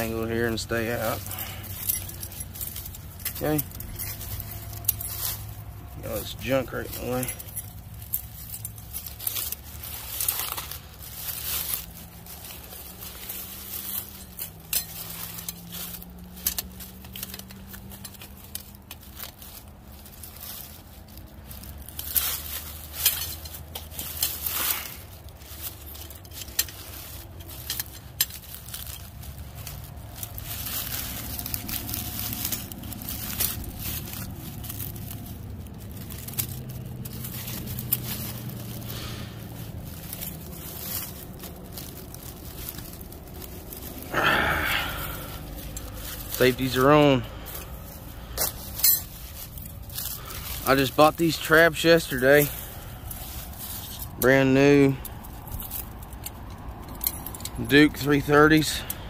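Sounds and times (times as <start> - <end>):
metallic clinks and rattles: 0.0 - 59.0
rustling of brush: 0.0 - 59.0.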